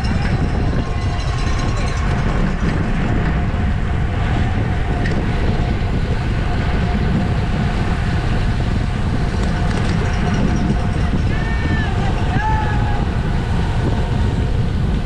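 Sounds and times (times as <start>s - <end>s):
bicycle road noise: 0.0s - 15.0s
wind rush: 0.0s - 15.0s.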